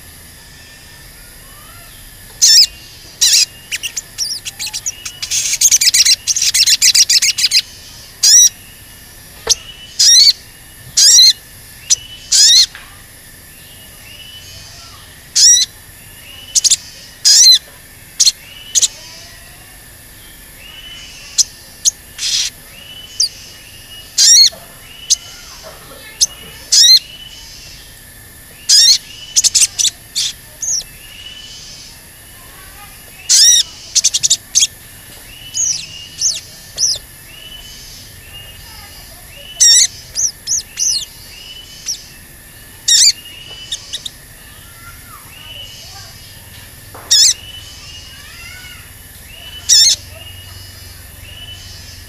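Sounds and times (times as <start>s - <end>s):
soft background bird chirps: 0.0s - 52.0s
sunbird chirping: 0.0s - 52.0s.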